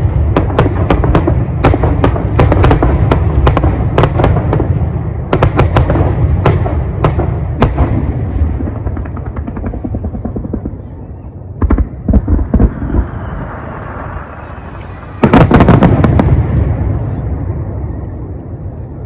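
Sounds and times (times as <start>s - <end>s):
fireworks bangs: 0.0s - 18.3s
fireworks rumble: 0.0s - 19.0s.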